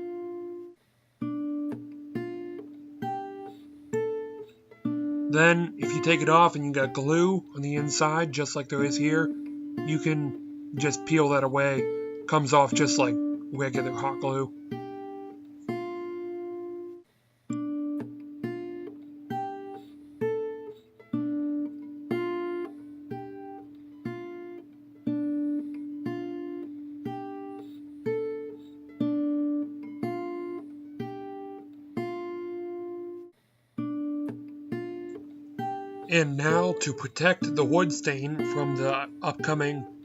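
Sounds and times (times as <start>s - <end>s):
acoustic guitar picking: 0.0s - 40.0s.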